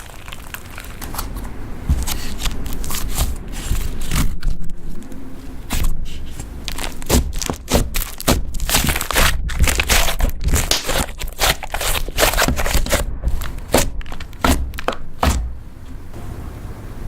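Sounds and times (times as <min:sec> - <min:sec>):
hands squishing slime: 0:00.0 - 0:15.5.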